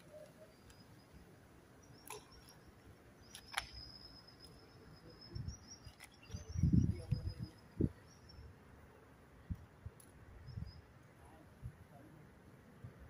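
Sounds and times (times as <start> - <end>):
thin high steady whine: 0.0 - 13.0.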